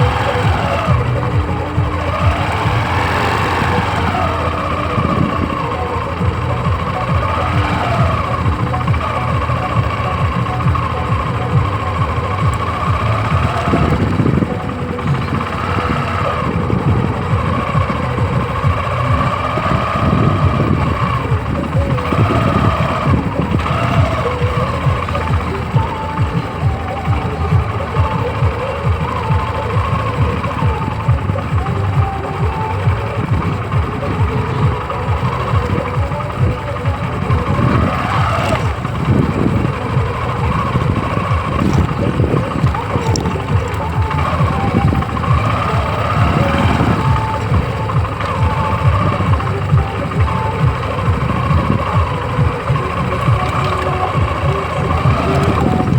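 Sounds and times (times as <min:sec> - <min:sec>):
tractor engine chugging: 0:00.0 - 0:55.9.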